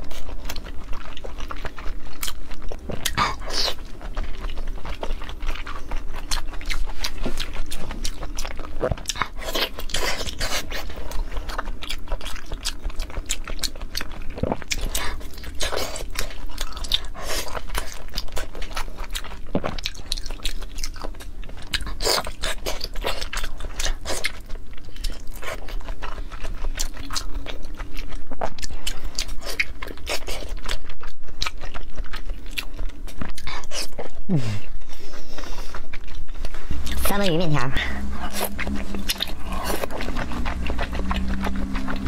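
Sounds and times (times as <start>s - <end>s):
chewing with mouth clicks: 0.0s - 42.0s.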